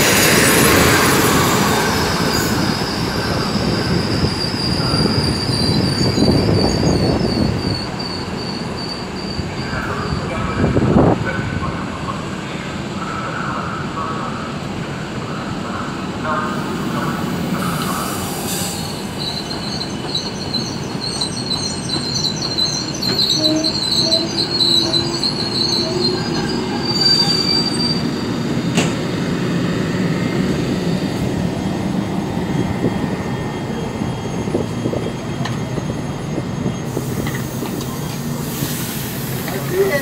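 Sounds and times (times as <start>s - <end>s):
train brakes squealing: 0.0s - 10.7s, 16.5s - 40.0s
train carriages rumbling: 0.0s - 40.0s.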